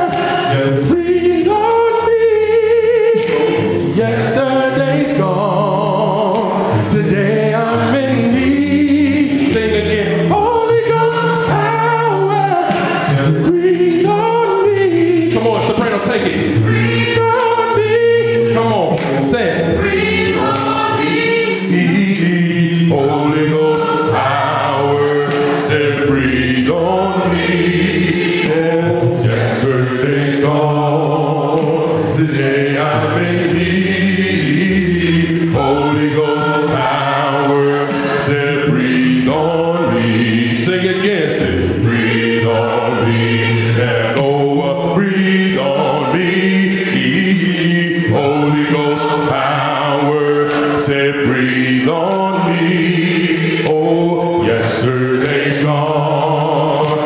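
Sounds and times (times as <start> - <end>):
a cappella group singing: 0.0 - 57.0.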